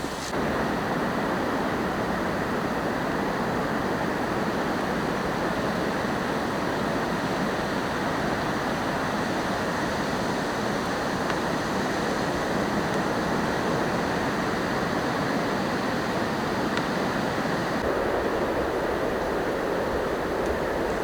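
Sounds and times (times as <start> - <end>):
campfire hissing: 0.0 - 21.0.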